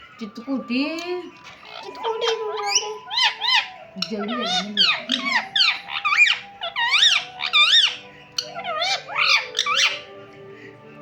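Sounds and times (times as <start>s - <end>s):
parrot whistled squeaks: 0.0s - 10.4s.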